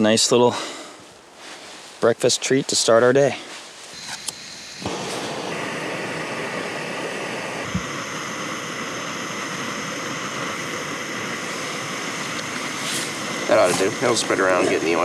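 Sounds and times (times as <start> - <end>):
burner flame hissing: 0.0 - 15.0.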